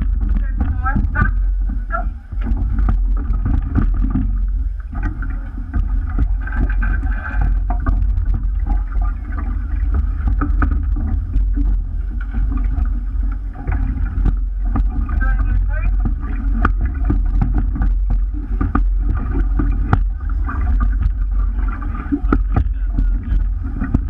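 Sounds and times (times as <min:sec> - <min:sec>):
oars clicking and knocking: 0:00.0 - 0:24.0
rumble of water and wind: 0:00.0 - 0:24.0.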